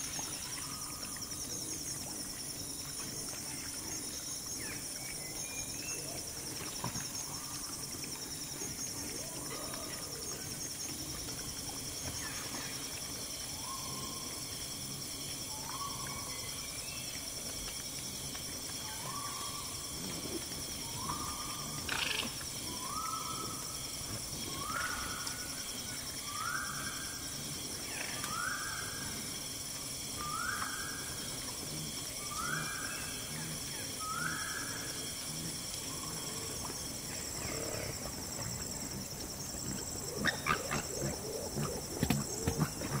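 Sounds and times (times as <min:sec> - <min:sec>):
high insect drone: 0:00.0 - 0:43.0.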